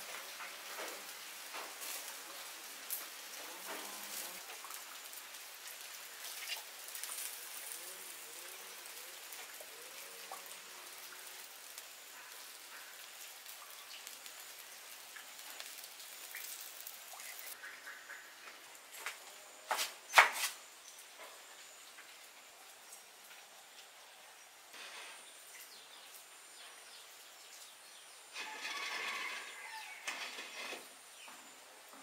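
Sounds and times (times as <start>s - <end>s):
steady rain: 0.0s - 19.8s, 20.5s - 32.0s.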